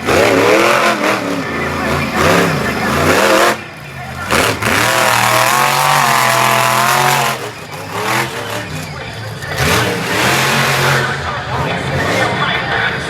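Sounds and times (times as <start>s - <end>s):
truck engine revving loudly: 0.0s - 13.0s.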